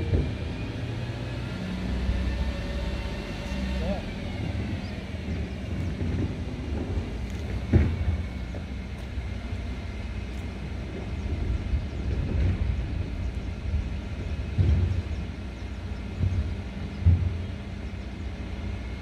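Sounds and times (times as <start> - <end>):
diesel truck engine rumble: 0.0 - 19.0.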